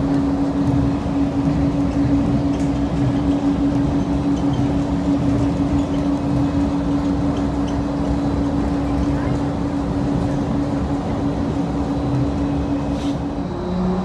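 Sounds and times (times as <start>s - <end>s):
machinery drone: 0.0s - 14.0s.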